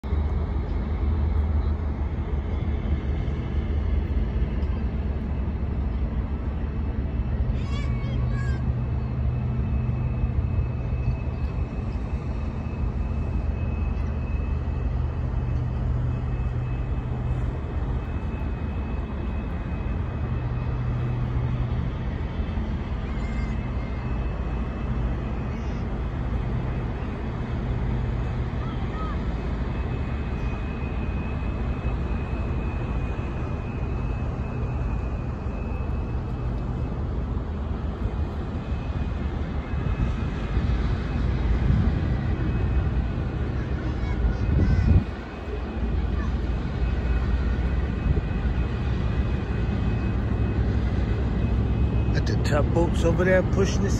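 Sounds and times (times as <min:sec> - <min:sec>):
low diesel engine drone: 0:00.0 - 0:53.9
faint high whine: 0:00.1 - 0:53.9.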